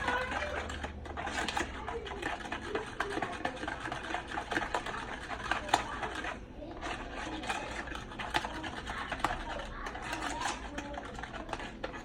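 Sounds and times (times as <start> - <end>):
spoon stirring in bowl: 0.0 - 12.0.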